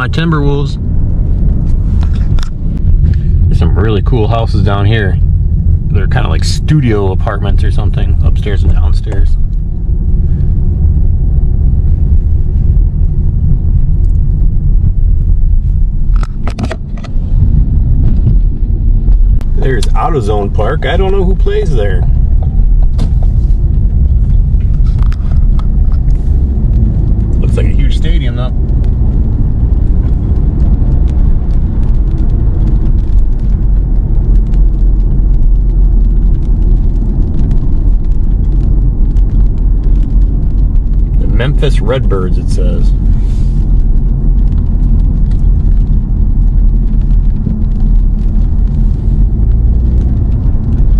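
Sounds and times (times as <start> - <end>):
car interior rumble: 0.0 - 50.9.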